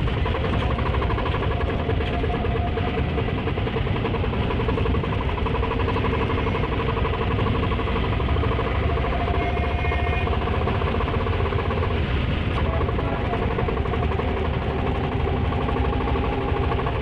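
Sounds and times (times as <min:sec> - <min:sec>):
rickshaw engine idling: 0:00.0 - 0:17.0.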